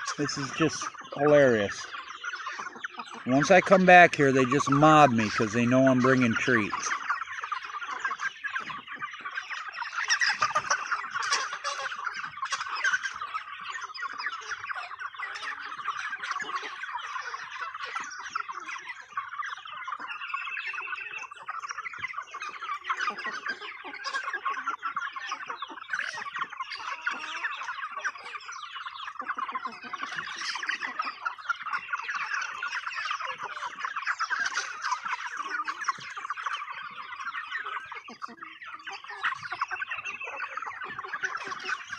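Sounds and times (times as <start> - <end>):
chickens clucking and squawking: 0.0 - 41.9.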